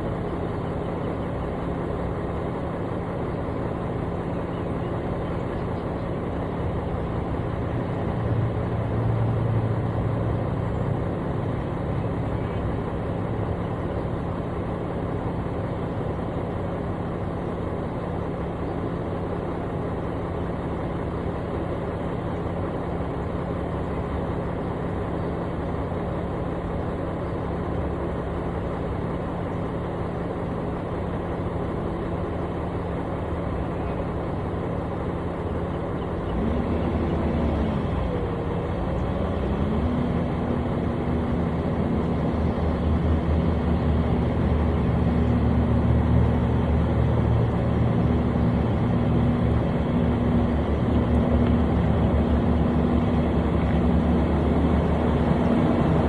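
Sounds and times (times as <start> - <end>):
construction machine engine running: 0.0 - 56.0.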